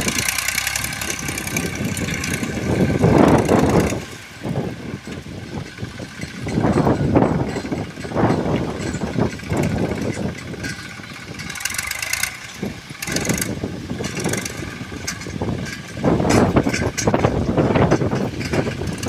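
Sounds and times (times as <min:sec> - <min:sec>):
rotary digger churning soil: 0:00.0 - 0:19.0
tractor engine running: 0:00.0 - 0:19.0.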